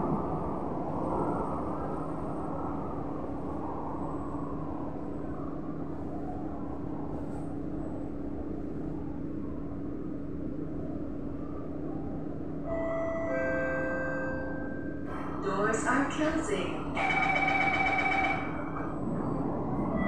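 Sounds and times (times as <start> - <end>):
train equipment hum and whirr: 0.0 - 20.0.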